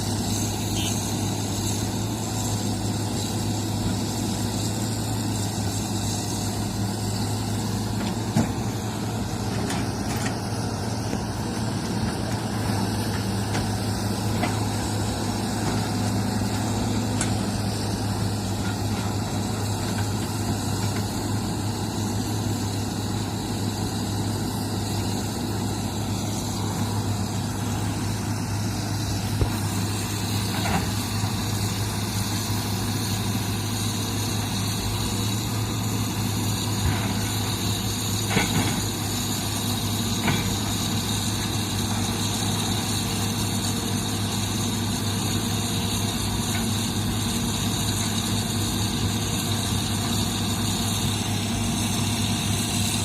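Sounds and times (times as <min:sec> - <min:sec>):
heavy diesel engine hum: 0:00.0 - 0:53.0.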